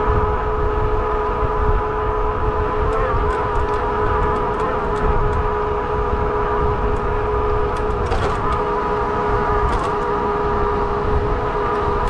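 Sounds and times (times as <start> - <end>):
e-bike motor and tyre whine: 0.0 - 12.0
wind rumbling on microphone: 0.0 - 12.0.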